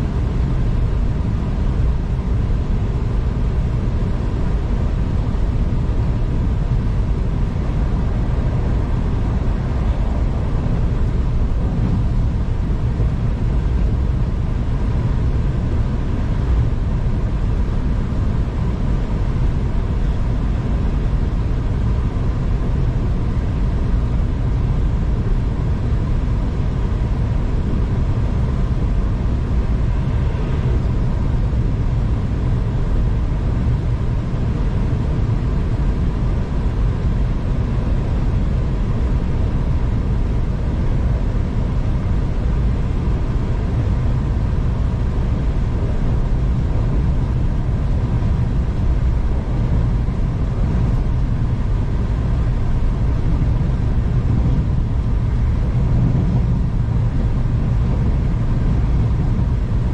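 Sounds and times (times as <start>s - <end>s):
faint constant hum: 0.0s - 59.9s
train rumbling from inside carriage: 0.0s - 59.9s.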